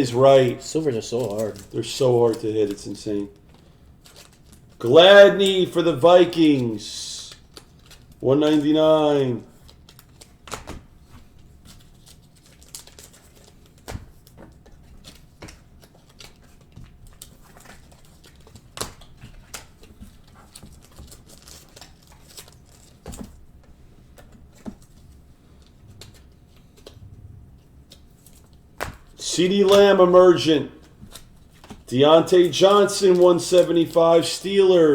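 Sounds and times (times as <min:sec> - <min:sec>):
trading cards rustling: 0:00.0 - 0:34.9.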